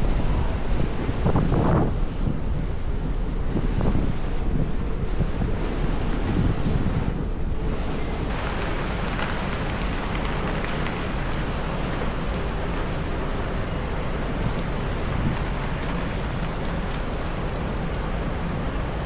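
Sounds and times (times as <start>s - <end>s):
heavy rain on street: 0.0s - 19.0s
low gusty rumble: 0.0s - 19.0s.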